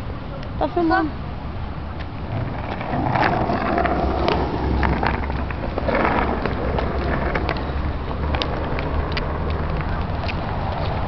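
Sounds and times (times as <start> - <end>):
skateboard rolling on concrete: 0.0 - 11.0
wind rumble on microphone: 1.5 - 11.0.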